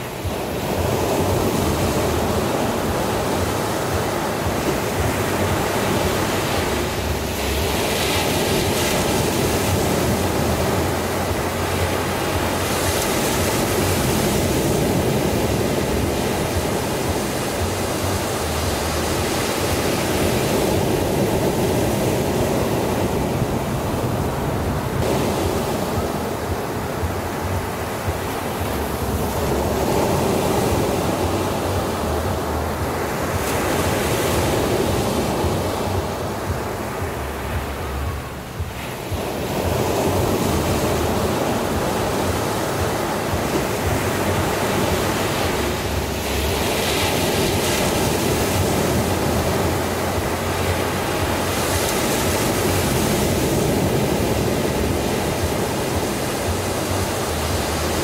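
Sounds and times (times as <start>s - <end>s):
waves breaking on sandy beach: 0.0s - 58.0s.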